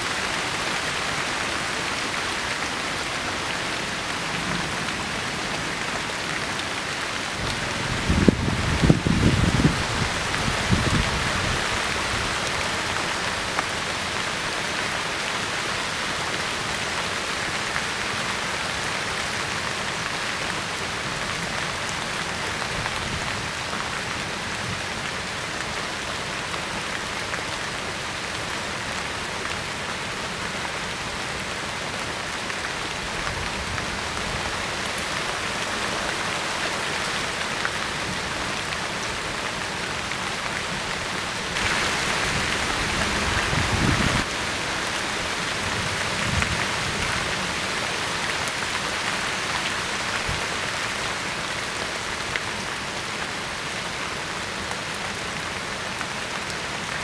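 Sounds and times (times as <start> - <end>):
rain on ground and leaves: 0.0 - 57.0.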